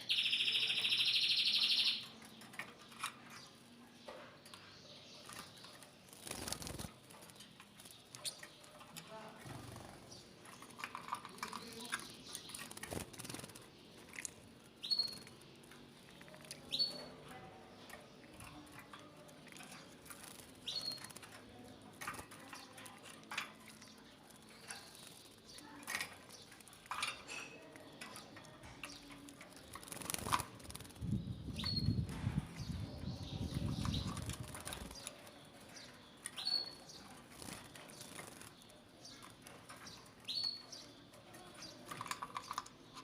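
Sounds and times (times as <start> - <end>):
canaries chirping: 0.0 - 43.0
birds splashing and fluttering: 0.8 - 43.0.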